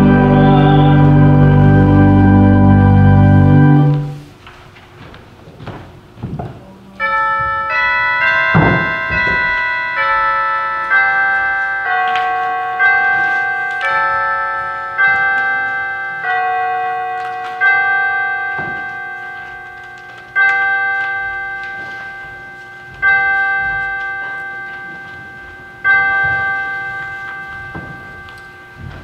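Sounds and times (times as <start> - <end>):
slow ringing chords: 0.0 - 4.3, 7.0 - 29.0.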